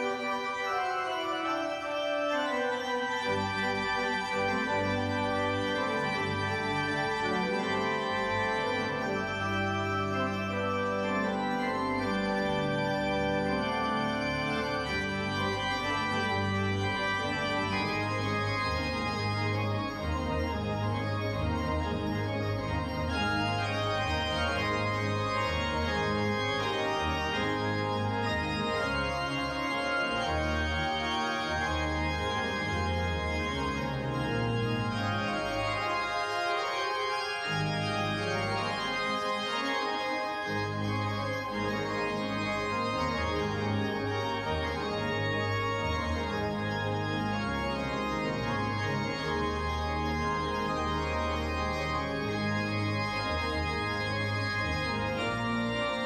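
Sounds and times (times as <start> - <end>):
deep organ bass notes: 0.0 - 56.0
pipe organ chords: 0.0 - 56.0.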